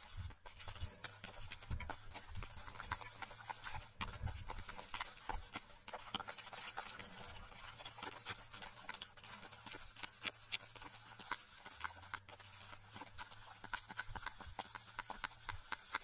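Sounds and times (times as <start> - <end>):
wet batter being stirred: 0.0 - 16.0.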